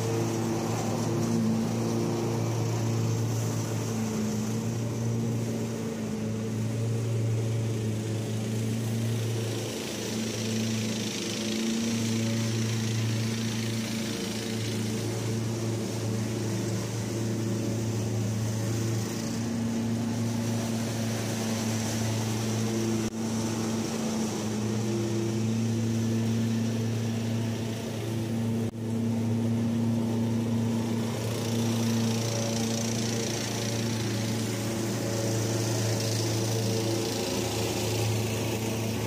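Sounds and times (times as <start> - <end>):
mower engine drone: 0.0 - 39.0.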